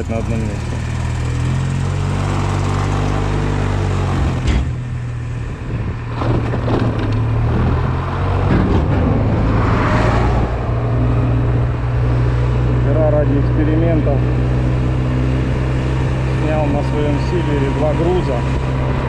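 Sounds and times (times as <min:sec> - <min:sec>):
scooter engine humming: 0:00.0 - 0:19.0.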